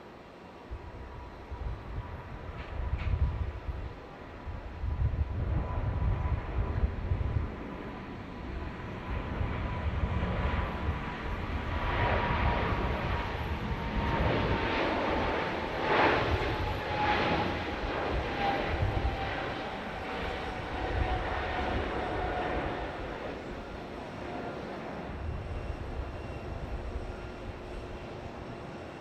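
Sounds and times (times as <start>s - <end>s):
jet airliner passing by: 0.0s - 29.0s.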